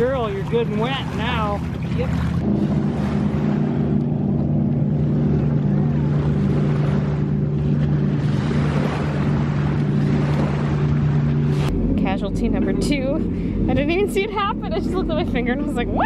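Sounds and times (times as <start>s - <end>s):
motorboat engine droning: 0.0s - 16.0s
water noise: 0.0s - 16.0s
wind: 0.0s - 16.0s.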